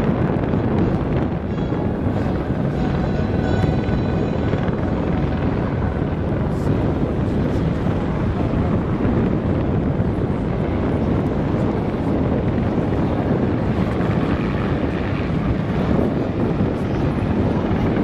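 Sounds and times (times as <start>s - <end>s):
helicopter hovering: 0.0s - 18.0s.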